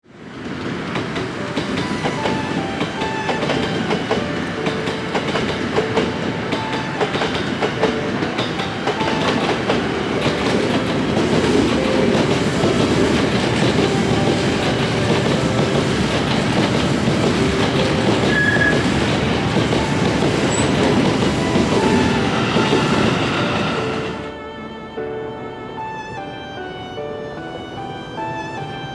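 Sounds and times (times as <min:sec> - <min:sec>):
electric train rumble: 0:00.1 - 0:28.9
wheels clattering over rail joints: 0:00.5 - 0:24.3.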